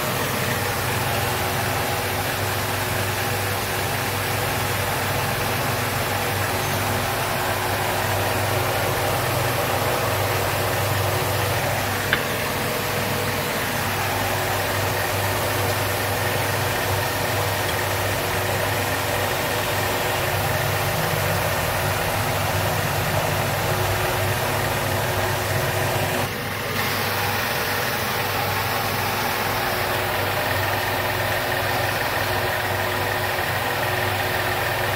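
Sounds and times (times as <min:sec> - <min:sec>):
mechanical drone with hum and hiss: 0:00.0 - 0:34.9.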